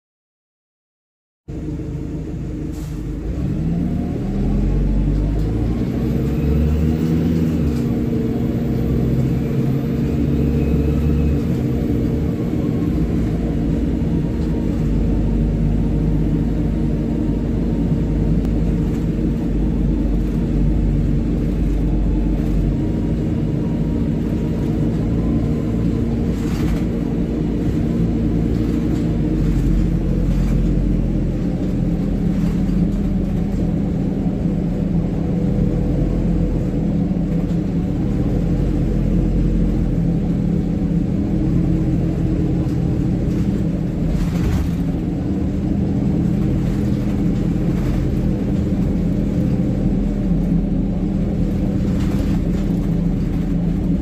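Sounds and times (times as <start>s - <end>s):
bus diesel engine droning: 1.5s - 54.0s.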